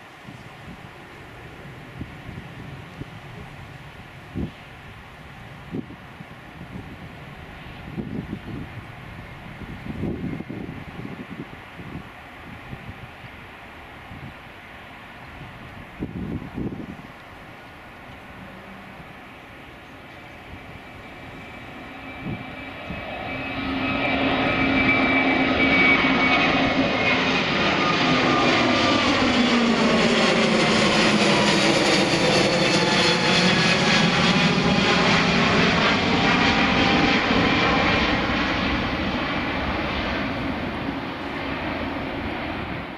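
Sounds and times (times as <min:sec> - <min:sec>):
jet airliner roar: 0:00.0 - 0:42.9.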